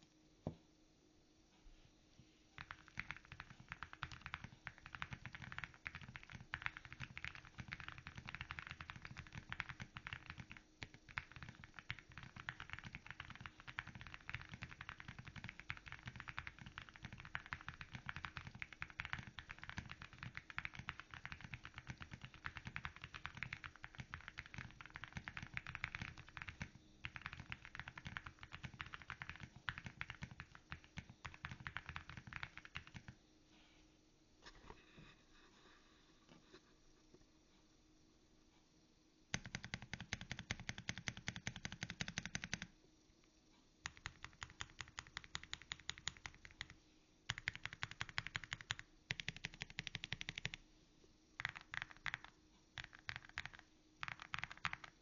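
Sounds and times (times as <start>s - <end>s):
fast mechanical keyboard typing: 2.6s - 33.2s, 39.3s - 42.7s, 43.8s - 50.6s, 51.4s - 55.0s.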